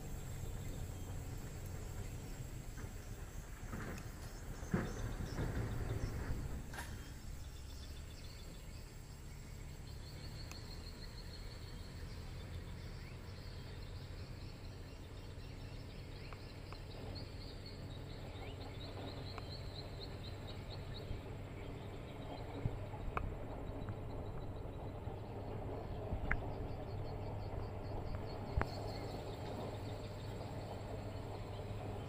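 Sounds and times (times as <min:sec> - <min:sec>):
distant diesel engine drone: 0:00.0 - 0:32.0.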